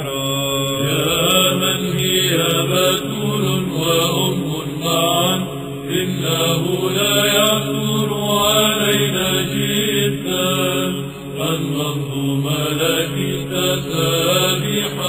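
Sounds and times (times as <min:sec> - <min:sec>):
choir chanting: 0:00.0 - 0:15.0
held low drone note: 0:00.0 - 0:15.0.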